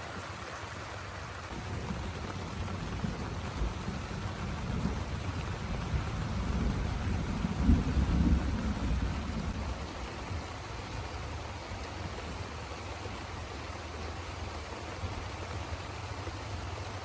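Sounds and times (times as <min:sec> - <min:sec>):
heavy rain: 0:00.1 - 0:17.0.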